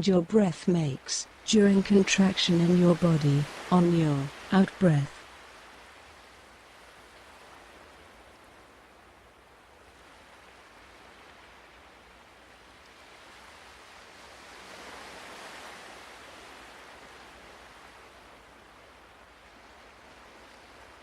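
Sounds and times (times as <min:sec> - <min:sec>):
ocean waves washing in: 0:00.0 - 0:21.0.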